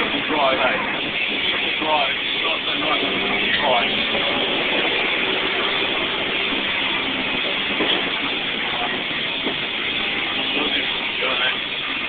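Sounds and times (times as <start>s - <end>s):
car engine running steadily: 0.0s - 12.0s
road and wind noise: 0.0s - 12.0s.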